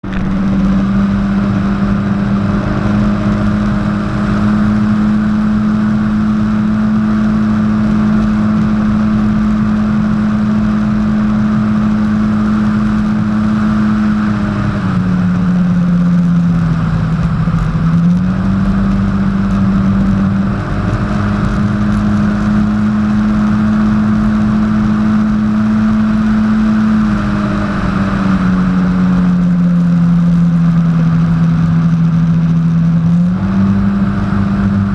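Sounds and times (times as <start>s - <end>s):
jet ski engine running: 0.0s - 34.9s.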